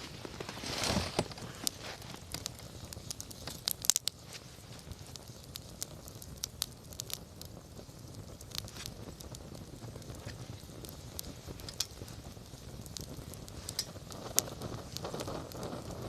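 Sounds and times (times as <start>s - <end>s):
campfire crackling and popping: 0.0s - 16.0s
low rumble of flame: 0.0s - 16.0s.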